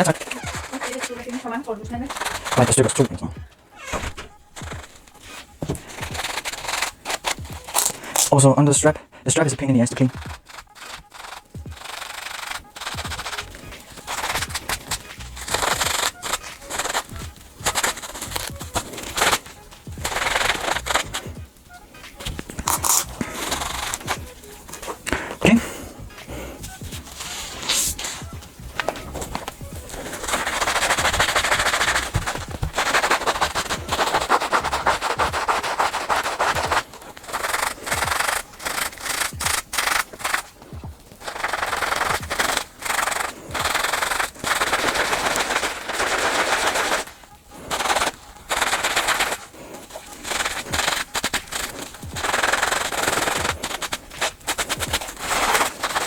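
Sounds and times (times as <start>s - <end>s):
brush scrubbing a sneaker: 0.0s - 56.0s.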